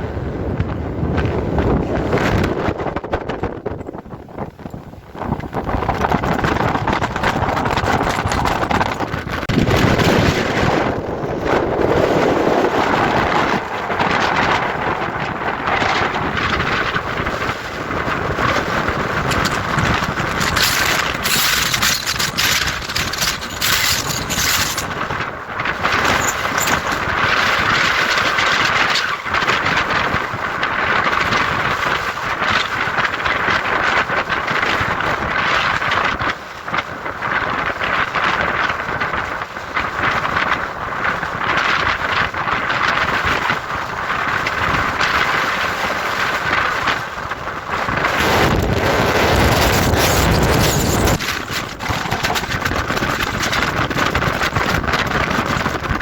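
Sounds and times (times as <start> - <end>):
strong wind buffeting microphone: 0.0 - 56.0.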